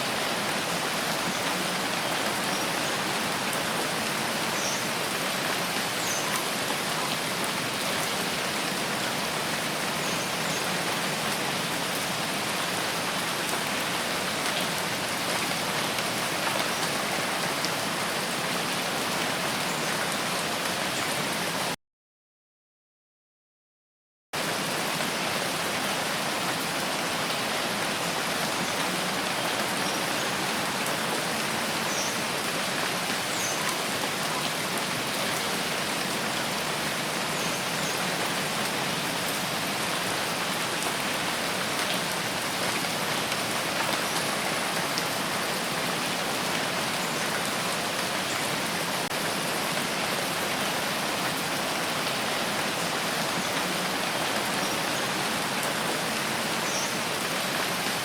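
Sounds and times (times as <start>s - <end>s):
heavy rain falling: 0.0s - 21.8s, 24.4s - 58.0s.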